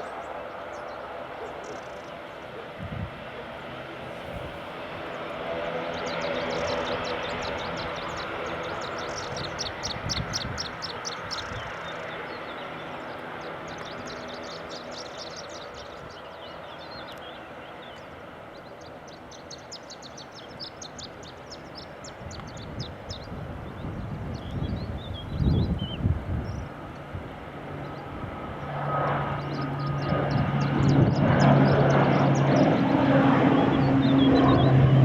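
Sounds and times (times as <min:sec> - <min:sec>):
small birds chirping: 0:00.0 - 0:02.7, 0:03.4 - 0:26.8, 0:29.2 - 0:35.0
aircraft engine noise: 0:00.0 - 0:35.0.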